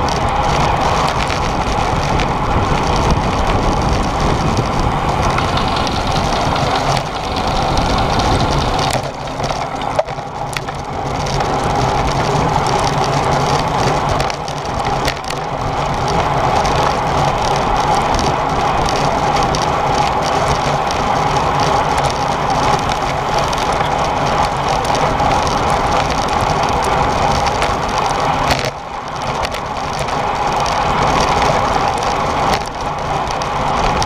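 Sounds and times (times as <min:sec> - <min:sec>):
wind and road noise: 0:00.0 - 0:34.0.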